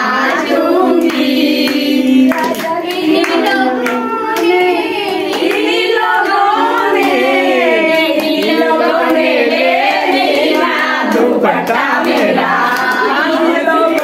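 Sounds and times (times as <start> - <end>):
group of women singing: 0.0 - 14.0
hand claps: 0.0 - 14.0.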